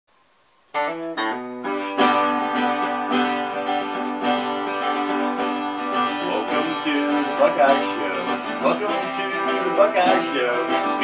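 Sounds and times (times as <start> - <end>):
acoustic guitar playing: 0.7 - 11.0.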